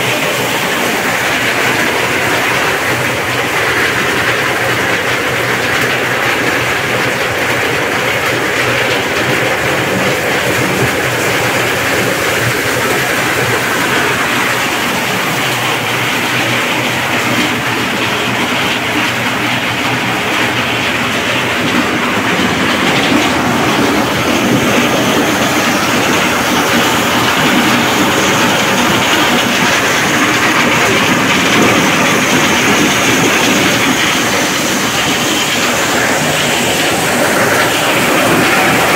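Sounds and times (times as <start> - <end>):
corn sheller rattling: 0.0 - 38.9.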